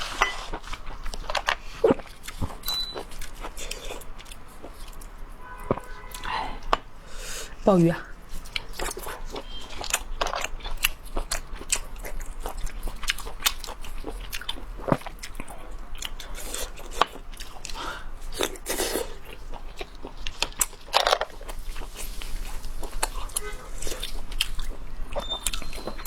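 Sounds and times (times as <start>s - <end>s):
person chewing with wet crunches: 0.0s - 26.0s.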